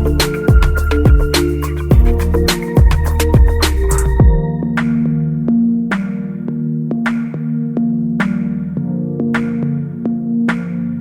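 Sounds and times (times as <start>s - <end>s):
electronic instrumental music: 0.0s - 11.0s.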